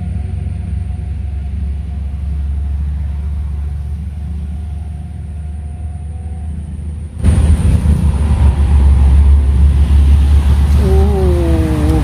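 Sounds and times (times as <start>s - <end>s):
faint hum: 0.0s - 12.0s
road traffic rumble: 0.0s - 12.0s.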